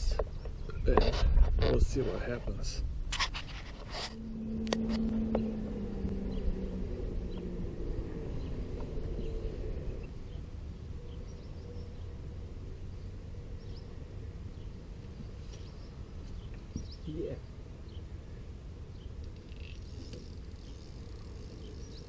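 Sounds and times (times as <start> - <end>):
river low rumble: 0.0 - 22.0
low hum: 0.1 - 22.0.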